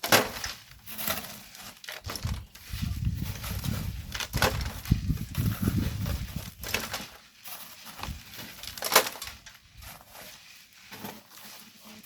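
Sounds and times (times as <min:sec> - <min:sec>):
tools scraping sand and gravel: 0:00.0 - 0:12.0.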